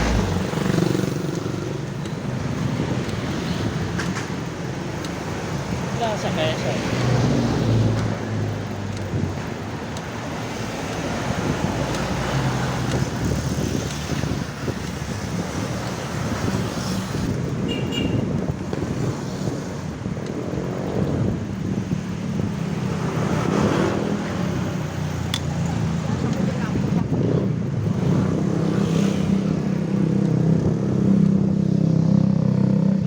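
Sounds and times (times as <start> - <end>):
road traffic and engine noise: 0.0 - 33.0
wind buffeting microphone: 0.0 - 33.0.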